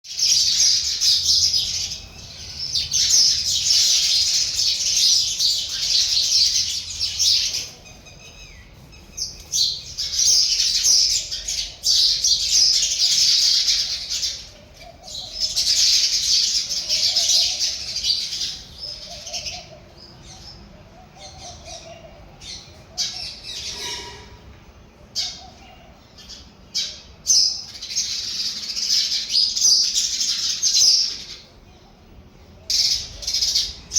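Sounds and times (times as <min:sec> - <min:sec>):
sparrows chirping: 0:00.0 - 0:33.9.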